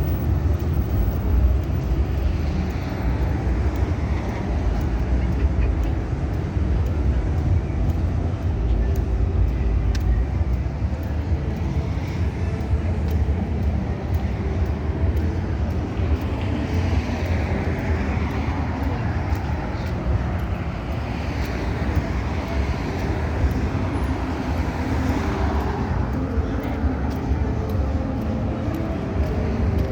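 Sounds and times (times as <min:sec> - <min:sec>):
street traffic rumble: 0:00.0 - 0:29.9.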